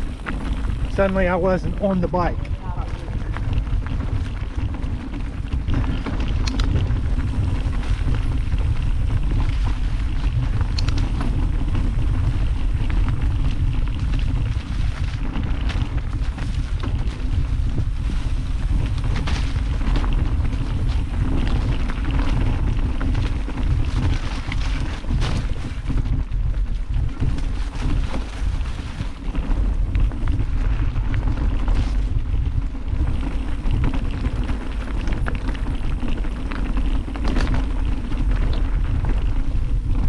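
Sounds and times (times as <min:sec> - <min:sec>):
bike and stones rattling: 0:00.0 - 0:40.0
wind and tyre rumble: 0:00.0 - 0:40.0.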